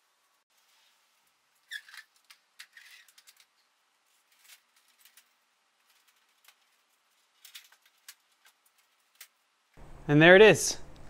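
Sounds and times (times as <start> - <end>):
faint handling clicks and rustles: 0.5 - 9.5.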